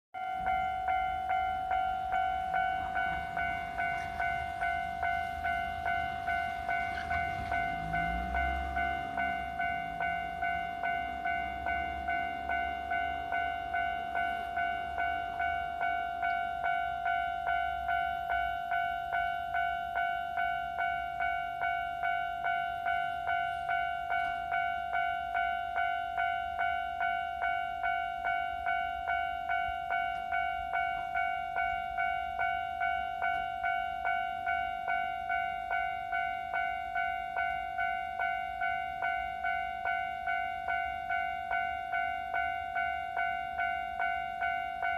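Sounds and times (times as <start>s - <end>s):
level crossing warning bell: 0.2s - 44.9s.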